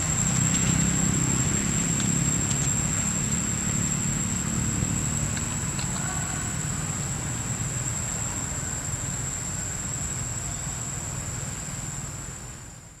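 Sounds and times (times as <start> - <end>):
high-pitched insect drone: 0.0 - 11.1.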